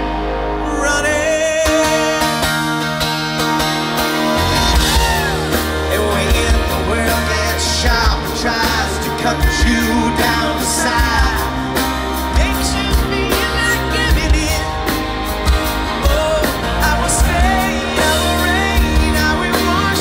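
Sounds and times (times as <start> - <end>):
live rock band playing: 0.0 - 20.0
man singing lead vocal: 0.4 - 3.1, 4.4 - 20.0.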